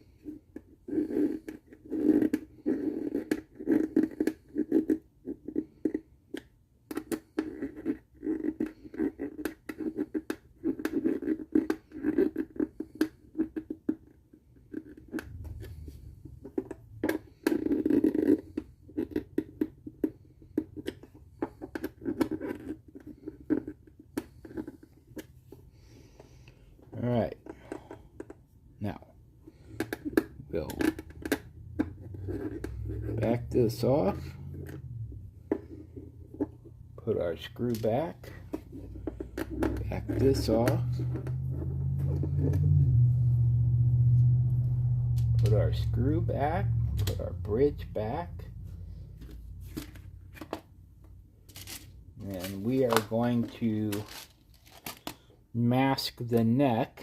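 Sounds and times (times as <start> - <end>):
scratching and scraping on wood: 7.1 - 28.4, 29.5 - 43.7, 45.1 - 55.3.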